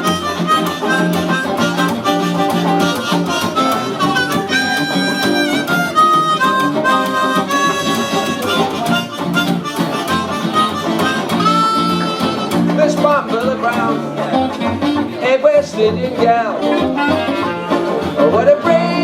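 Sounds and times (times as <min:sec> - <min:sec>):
bass and guitar rhythm: 0:00.0 - 0:19.0
lead instrument melody: 0:00.0 - 0:19.0.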